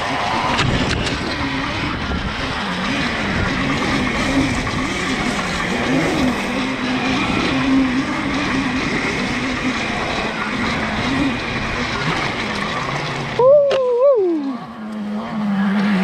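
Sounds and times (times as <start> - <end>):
dirt bike engine revving: 0.0 - 16.0
rising and falling tone: 0.0 - 16.0.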